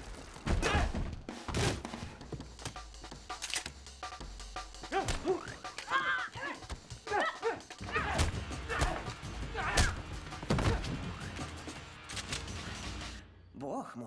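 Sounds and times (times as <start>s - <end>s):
background music: 0.7s - 14.0s.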